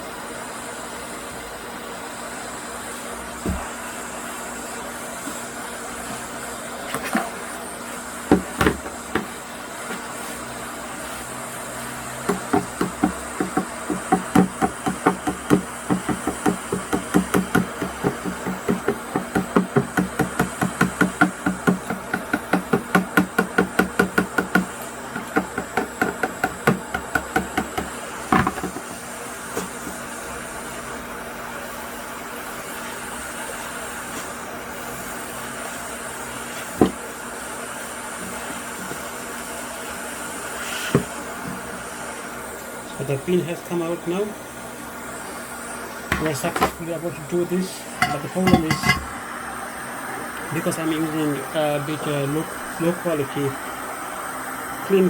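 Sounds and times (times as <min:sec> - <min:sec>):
hot air station blowing: 0:00.0 - 0:55.0.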